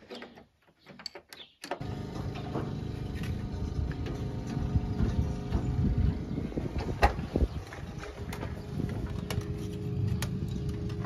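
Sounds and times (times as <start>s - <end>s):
engine running: 1.8s - 11.0s.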